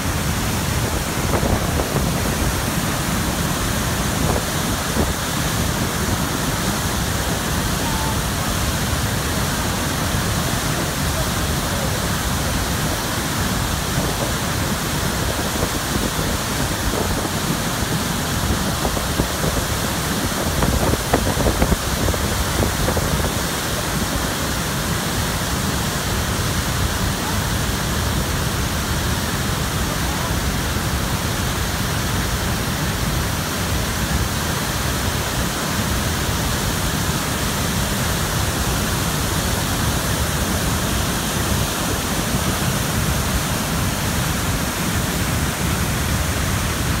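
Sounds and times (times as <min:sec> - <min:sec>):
waterfall rushing over rock: 0:00.0 - 0:47.0.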